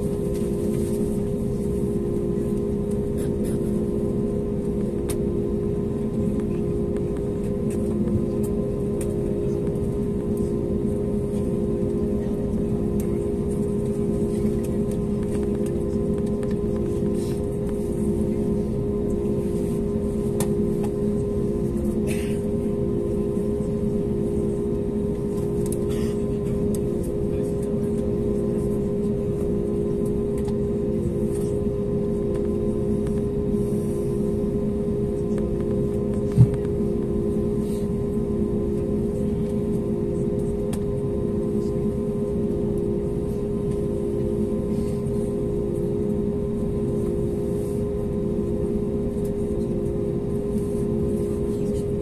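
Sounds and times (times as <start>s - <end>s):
aircraft cabin drone: 0.0s - 52.0s.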